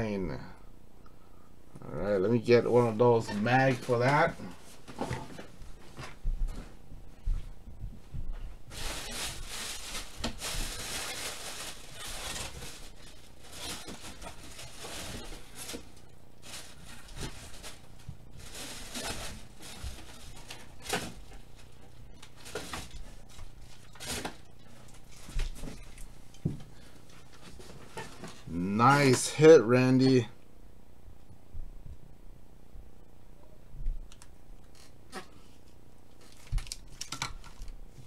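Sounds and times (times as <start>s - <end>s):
rustling handling noises: 2.6s - 30.2s, 34.2s - 38.0s.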